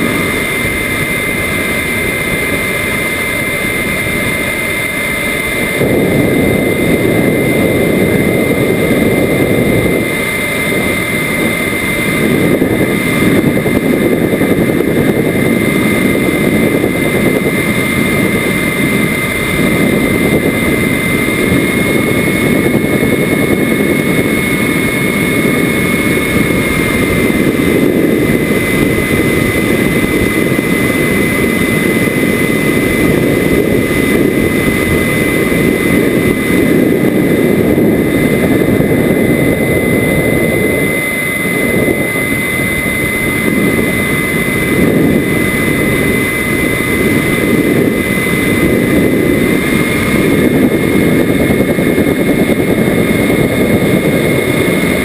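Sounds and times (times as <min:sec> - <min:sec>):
jet engine high whine: 0:00.0 - 0:55.0
rushing airflow: 0:00.0 - 0:55.0.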